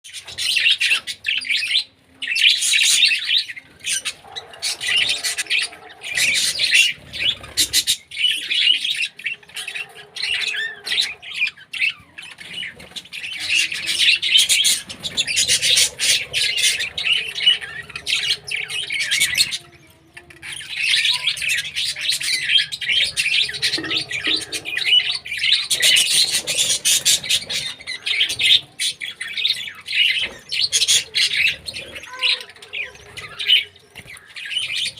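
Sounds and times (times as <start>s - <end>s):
birds chirping and squawking: 0.0s - 34.9s.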